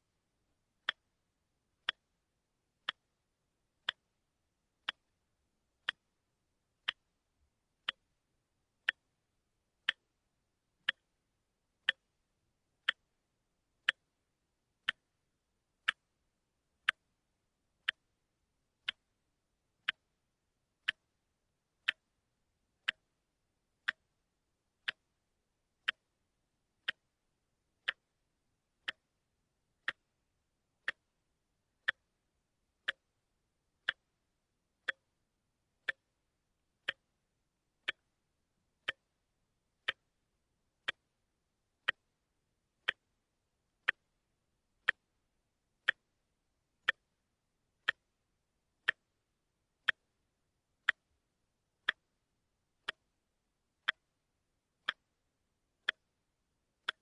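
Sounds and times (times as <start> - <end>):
watch ticking: 0.6 - 10.2, 10.8 - 12.2, 12.8 - 14.2, 14.8 - 56.2, 56.8 - 57.0.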